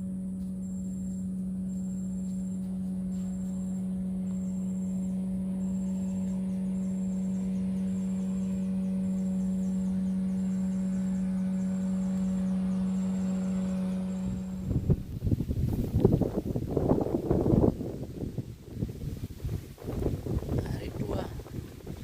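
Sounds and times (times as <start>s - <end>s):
low rumble: 0.0s - 22.0s
steady low hum: 0.0s - 22.0s.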